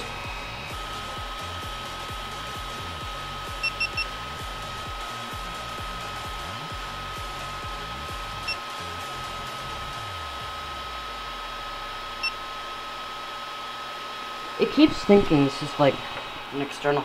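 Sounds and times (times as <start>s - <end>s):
fan whir: 0.0s - 17.0s
thin high whine: 0.0s - 17.0s.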